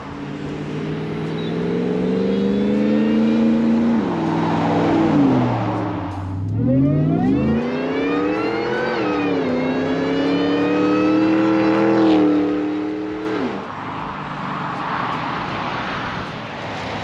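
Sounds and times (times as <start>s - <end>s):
truck engine accelerating: 0.0s - 13.7s.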